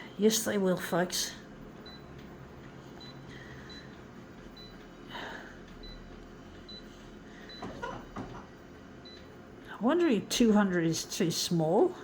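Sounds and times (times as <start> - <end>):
copier humming: 0.0 - 12.0.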